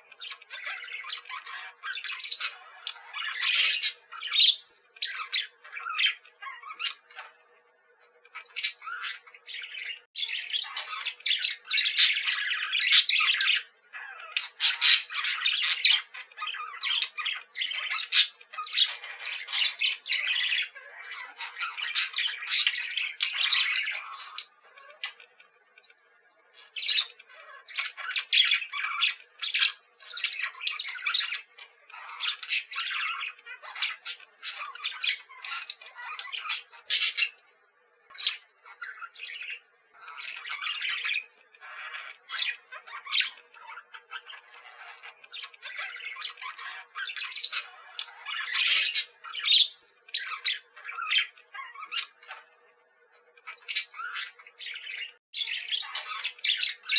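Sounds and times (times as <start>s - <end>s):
budgerigars chattering and squawking: 0.0s - 56.9s.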